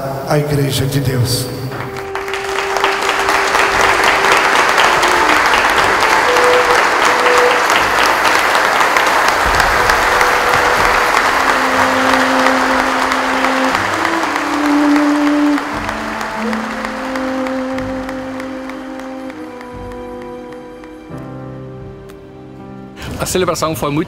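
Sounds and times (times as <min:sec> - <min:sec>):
crowd applauding: 0:01.7 - 0:21.5.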